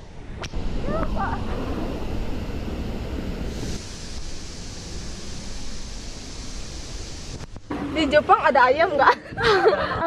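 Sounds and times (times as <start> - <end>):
wind buffeting microphone: 0.2 - 10.0
waterfall roaring: 0.5 - 9.0.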